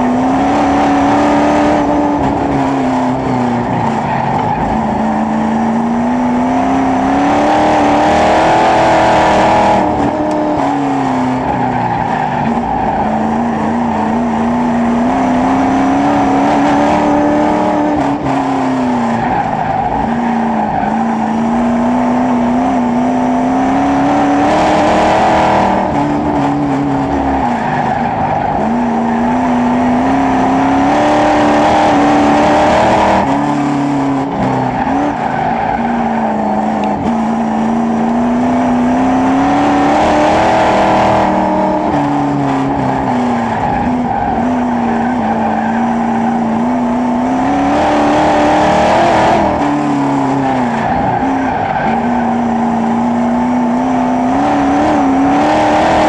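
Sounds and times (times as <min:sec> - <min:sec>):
race car engine at speed: 0:00.0 - 0:56.0.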